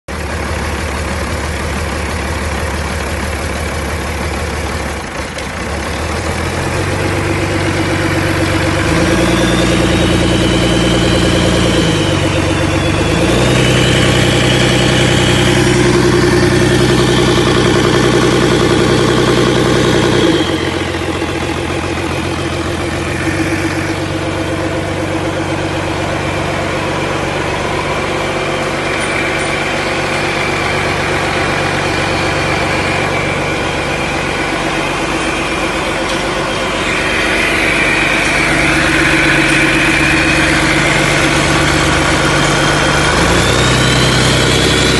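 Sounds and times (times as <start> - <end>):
diesel engine idling and revving: 0.0 - 44.9.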